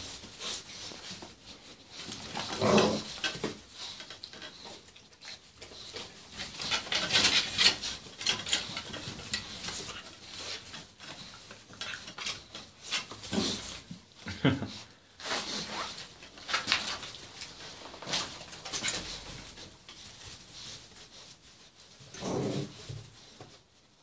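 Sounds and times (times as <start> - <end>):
puppies scuffling on straw: 0.0 - 24.0.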